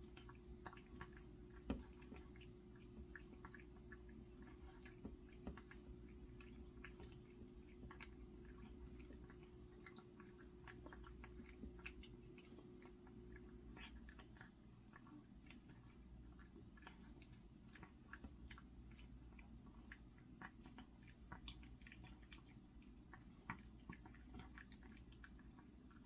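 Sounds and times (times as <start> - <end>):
cat chewing and eating: 0.0 - 26.0
low steady hum: 0.0 - 26.0.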